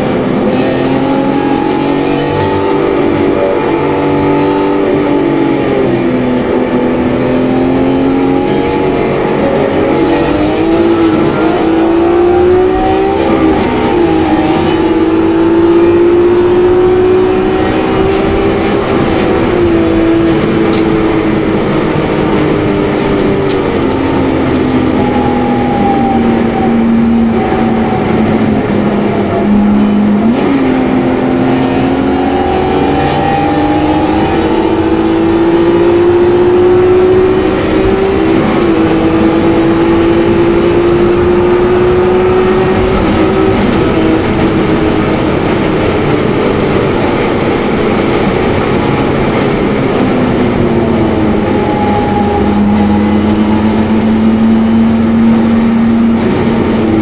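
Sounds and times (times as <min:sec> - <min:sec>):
car engine revving at full throttle: 0:00.0 - 0:57.0.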